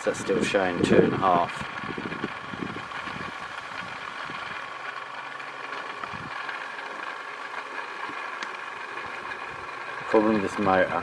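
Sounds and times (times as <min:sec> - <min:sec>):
small electric motor whine: 0:00.0 - 0:11.0.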